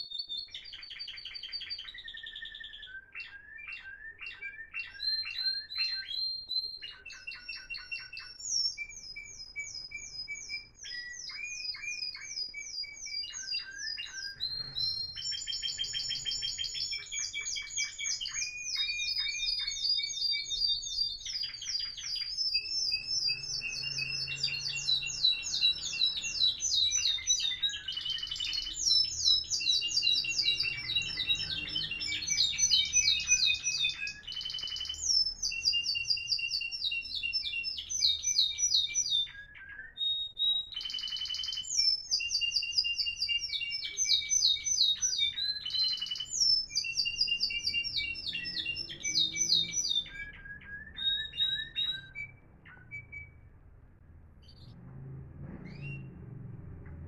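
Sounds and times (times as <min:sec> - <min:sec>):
canaries singing trills: 0:00.0 - 0:57.0.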